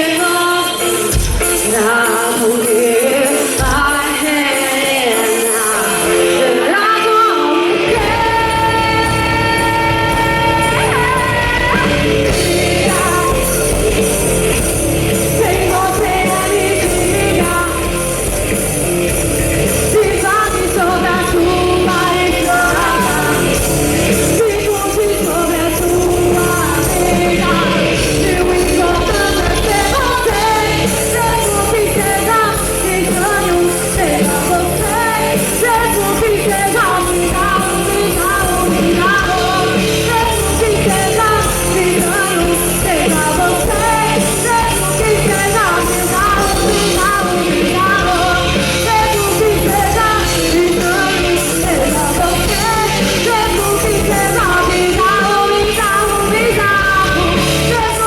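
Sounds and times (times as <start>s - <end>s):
drums: 0.0s - 58.0s
live rock band playing: 0.0s - 58.0s
person singing: 0.0s - 58.0s
bass: 7.8s - 58.0s.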